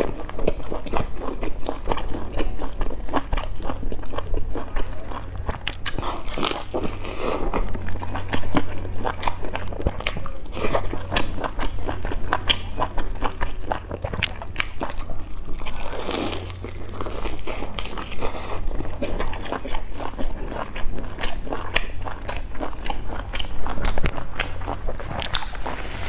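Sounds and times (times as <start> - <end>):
crunching and chewing crisp pastry: 0.0 - 26.0
low hum: 0.0 - 26.0.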